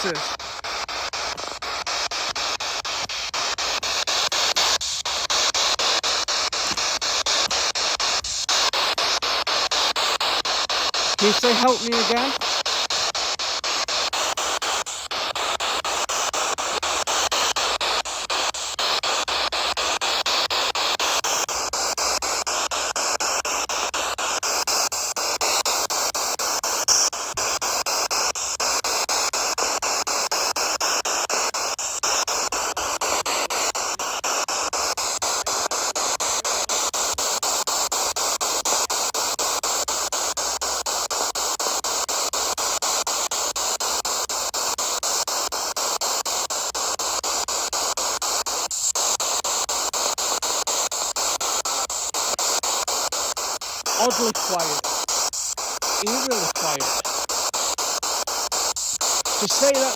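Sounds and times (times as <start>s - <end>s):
radio static scanning: 0.0s - 59.9s.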